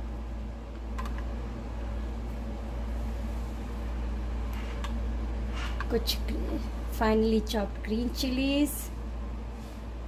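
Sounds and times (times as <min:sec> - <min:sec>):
low fan hum: 0:00.0 - 0:10.0.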